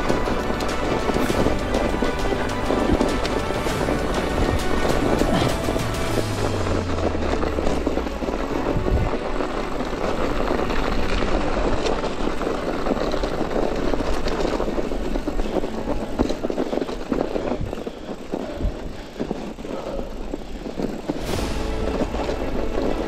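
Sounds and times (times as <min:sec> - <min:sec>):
bike rolling over snow: 0:00.0 - 0:23.0
wind rumble on microphone: 0:00.0 - 0:23.0.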